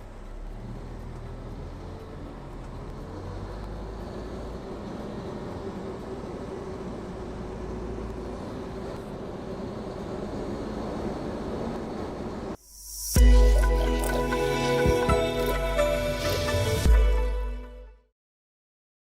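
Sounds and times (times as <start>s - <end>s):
dump truck mechanical drone: 0.0s - 17.8s.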